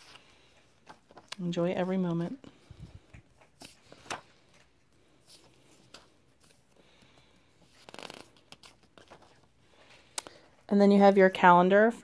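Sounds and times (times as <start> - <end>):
paper pages rustling and tapping: 0.0 - 10.4.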